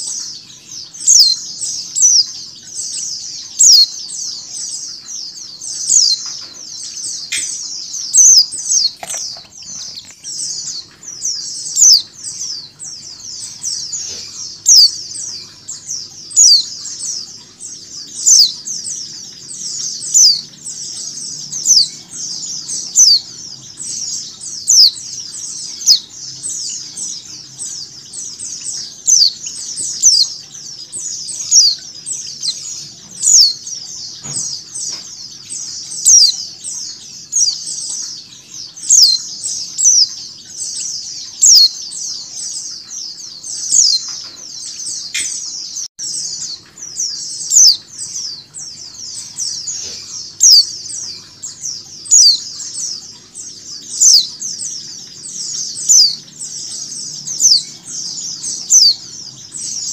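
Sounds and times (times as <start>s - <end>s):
flock of birds chirping: 0.0s - 59.9s.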